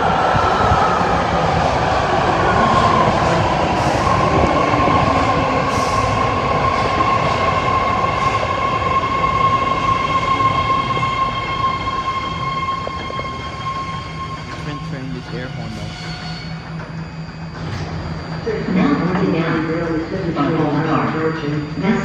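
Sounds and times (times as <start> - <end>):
rumble of train cars: 0.0 - 22.0
train wheels squealing on rails: 0.0 - 22.0.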